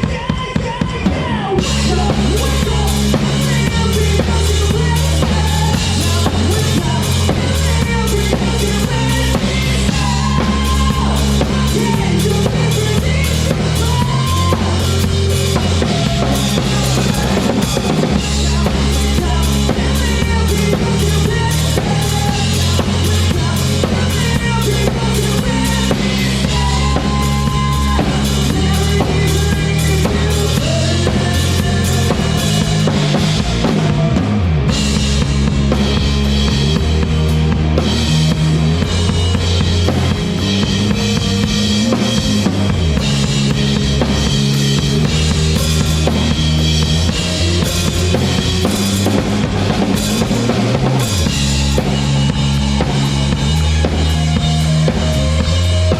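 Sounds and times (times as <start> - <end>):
rock band playing live: 0.0 - 55.9.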